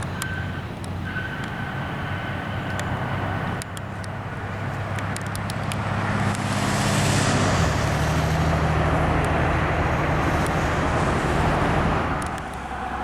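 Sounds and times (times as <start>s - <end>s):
engine noise: 0.0s - 13.0s.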